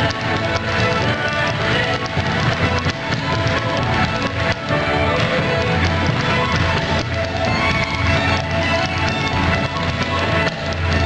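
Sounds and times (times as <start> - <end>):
dance shoes tapping on wood: 0.0 - 11.0
live traditional folk music: 0.0 - 11.0.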